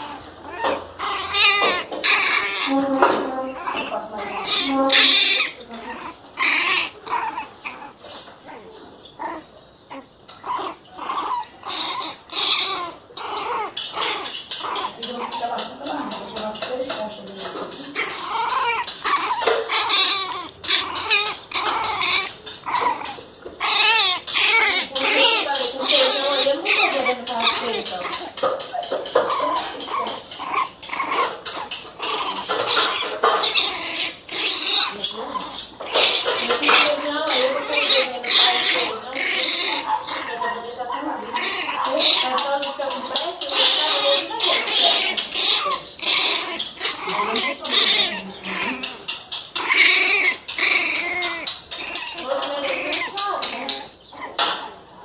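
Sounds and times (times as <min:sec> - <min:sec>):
puppies barking and yipping: 0:00.0 - 0:55.0.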